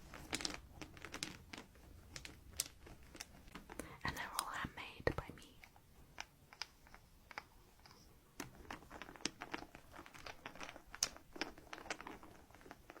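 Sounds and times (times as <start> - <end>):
crinkling and clicking of handling: 0.0 - 13.0.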